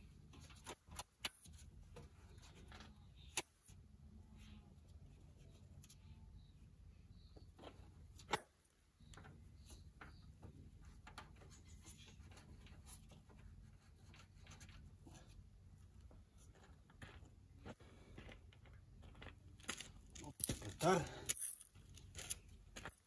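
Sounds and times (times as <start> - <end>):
faint low hum: 1.5 - 22.9.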